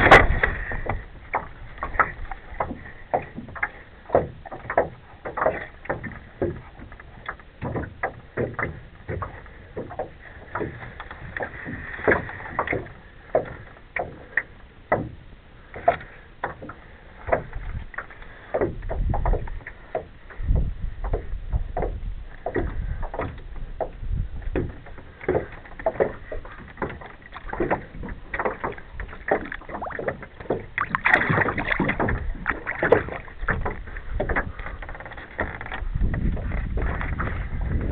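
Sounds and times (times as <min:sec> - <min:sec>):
knocks and taps against boat hull: 0:00.0 - 0:37.9.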